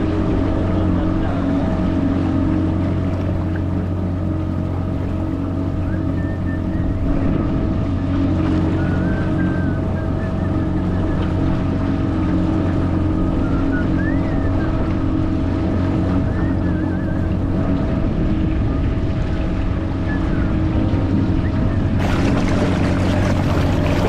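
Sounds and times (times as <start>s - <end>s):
outboard motor running: 0.0s - 24.0s
water rushing along hull: 0.0s - 24.0s.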